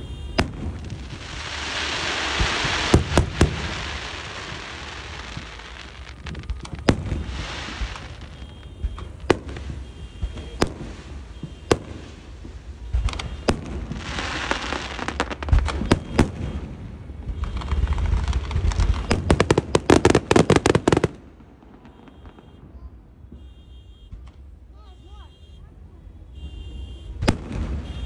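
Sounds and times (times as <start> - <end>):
fireworks crackling pops: 0.0 - 24.6, 26.4 - 28.0
fireworks bangs: 0.0 - 25.0, 26.3 - 28.0.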